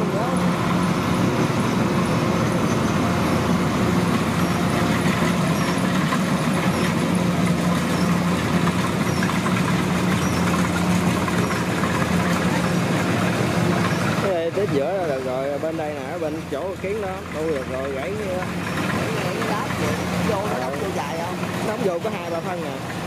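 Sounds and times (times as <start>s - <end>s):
combine harvester diesel engine: 0.0s - 23.0s.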